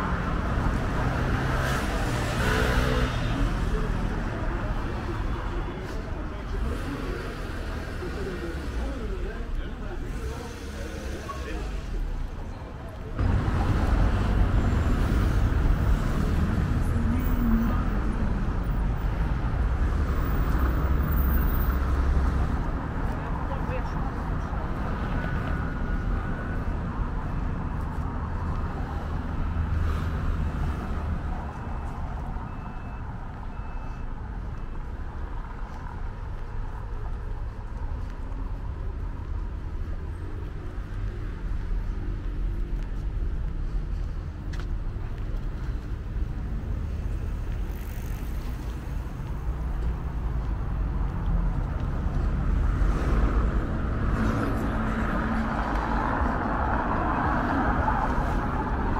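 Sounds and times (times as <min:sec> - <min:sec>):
low rumble of traffic: 0:00.0 - 0:58.9.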